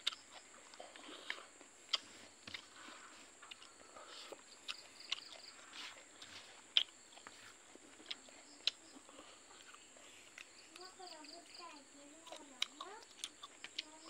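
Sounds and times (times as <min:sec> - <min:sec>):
person chewing wetly: 0:00.0 - 0:11.4, 0:12.2 - 0:14.0.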